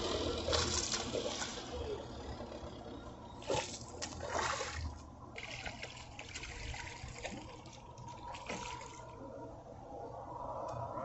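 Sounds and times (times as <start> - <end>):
fish splashing in water: 0.0 - 9.2.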